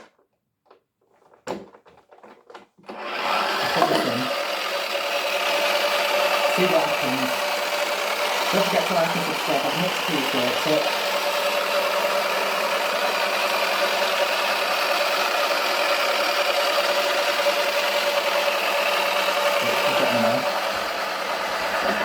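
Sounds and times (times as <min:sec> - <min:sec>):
toy washing machine motor hum: 0:01.8 - 0:22.0.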